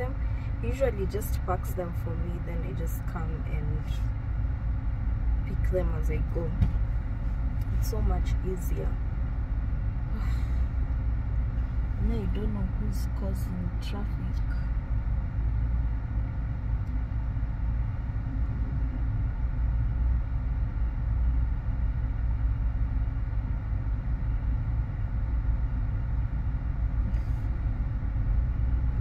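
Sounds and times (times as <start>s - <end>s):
car engine rumble inside cabin: 0.0s - 29.0s.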